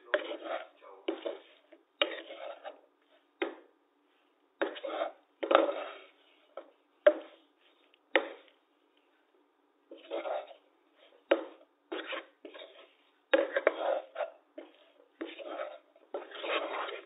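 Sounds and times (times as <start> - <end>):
wooden spatula scraping a pan: 0.0 - 9.2, 9.9 - 17.0.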